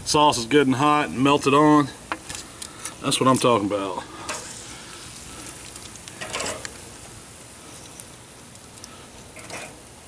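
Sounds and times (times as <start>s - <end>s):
ribs sizzling on a grill: 0.0s - 10.0s.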